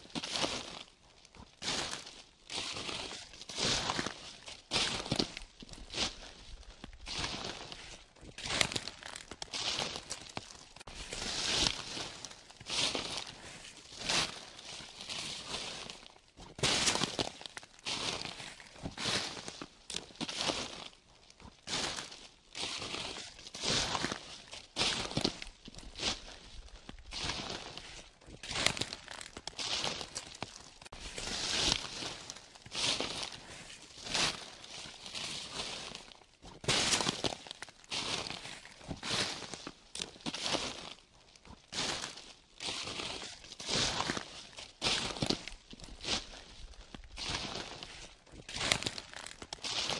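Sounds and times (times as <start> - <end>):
footsteps on dry leaves: 0.0 - 49.9.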